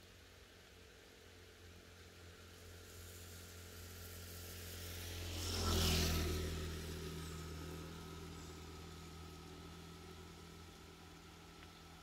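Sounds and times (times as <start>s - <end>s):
vehicle passing by: 2.1s - 12.0s.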